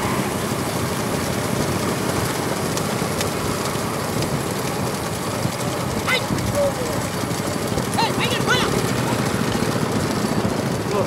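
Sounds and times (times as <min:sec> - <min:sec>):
hooves and cart wheels clattering: 0:00.0 - 0:11.0
motorbike engines: 0:00.0 - 0:11.0.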